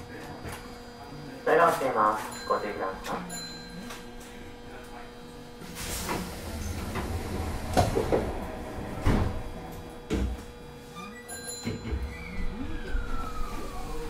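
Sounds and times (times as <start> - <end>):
train car equipment hum: 0.0 - 14.0.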